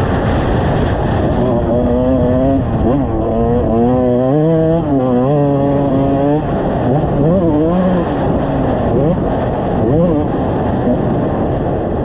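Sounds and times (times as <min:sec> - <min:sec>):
dirt bike engine revving: 0:00.2 - 0:11.3.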